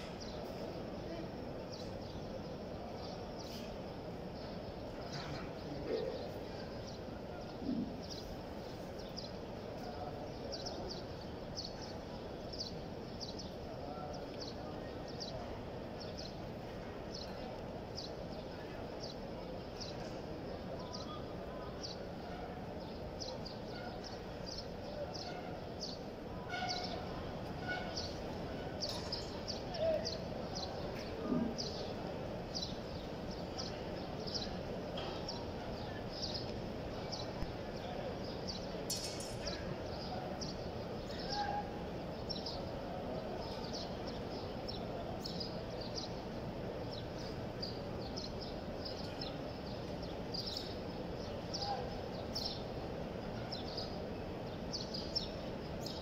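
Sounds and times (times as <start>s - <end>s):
murmur of large crowd: 0.0s - 56.0s.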